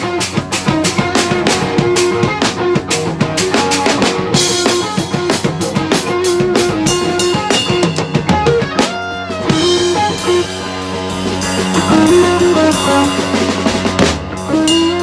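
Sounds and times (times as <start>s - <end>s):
drum kit played hard: 0.0s - 15.0s
electric guitar sustained notes: 0.0s - 15.0s.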